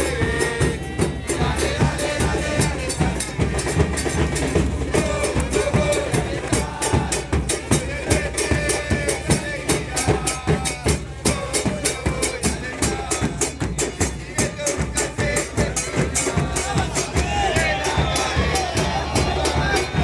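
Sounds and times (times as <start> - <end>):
crowd chanting: 0.0 - 20.0
drum band playing fast beat: 0.0 - 20.0.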